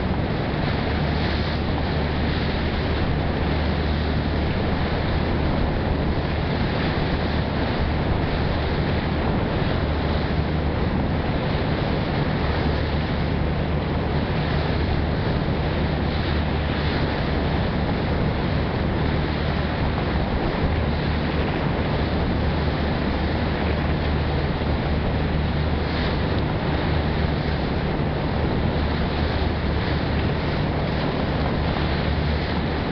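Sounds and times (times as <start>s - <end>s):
water rushing: 0.0s - 32.9s
wind buffeting microphone: 0.0s - 32.9s.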